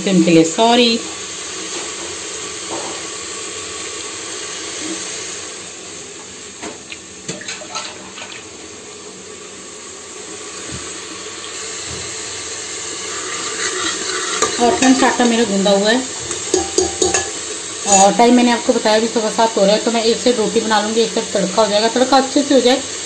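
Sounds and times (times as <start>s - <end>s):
masala sizzling in hot oil: 0.0s - 23.0s.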